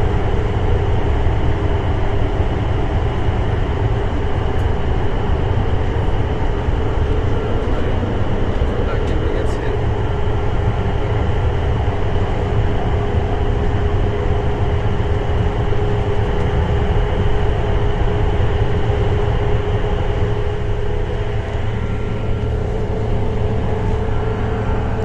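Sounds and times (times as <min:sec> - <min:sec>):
train running at speed: 0:00.0 - 0:25.0.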